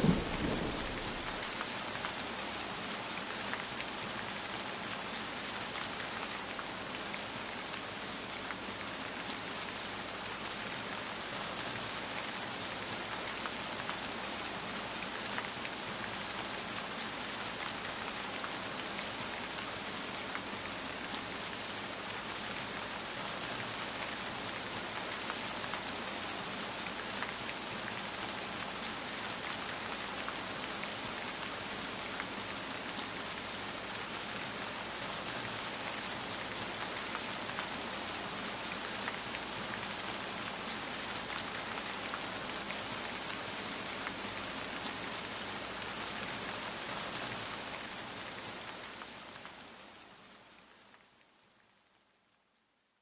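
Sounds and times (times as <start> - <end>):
rain falling on a surface: 0.0 - 53.0.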